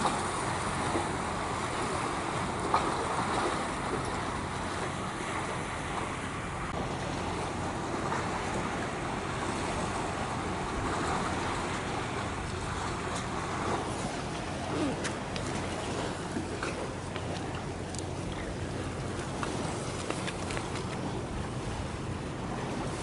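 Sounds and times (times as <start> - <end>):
waves: 0.0 - 23.0
wind: 0.0 - 23.0.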